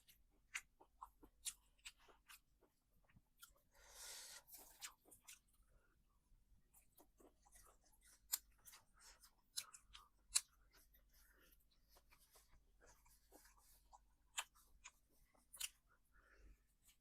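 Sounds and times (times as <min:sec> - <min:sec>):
person chewing crisp crunches: 0:00.0 - 0:05.7, 0:06.7 - 0:17.0.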